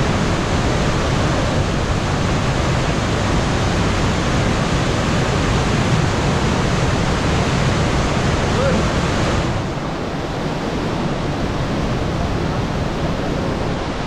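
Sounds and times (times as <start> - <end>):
creek rushing over falls: 0.0 - 14.0.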